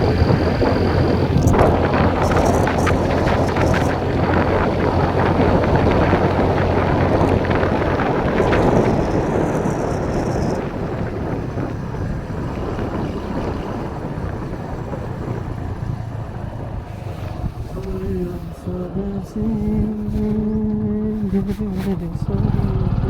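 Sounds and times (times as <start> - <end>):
motor vehicle rumble: 0.0 - 23.0
wind noise on microphone: 0.0 - 23.0.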